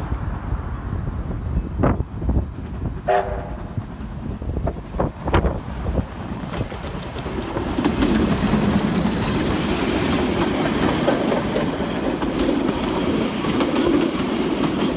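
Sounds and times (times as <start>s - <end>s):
steam locomotive passing: 0.0s - 14.9s
wheels clattering over rail joints: 2.4s - 14.9s.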